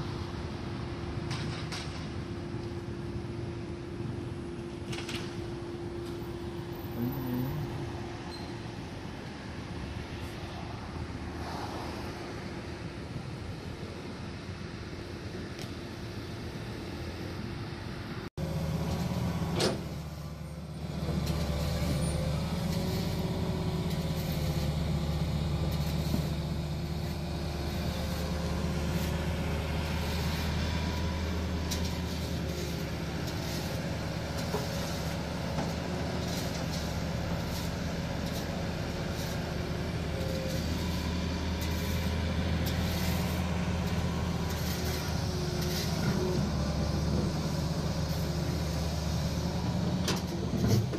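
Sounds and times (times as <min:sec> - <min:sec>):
excavator diesel engine running: 0:02.3 - 0:09.7, 0:16.1 - 0:50.9.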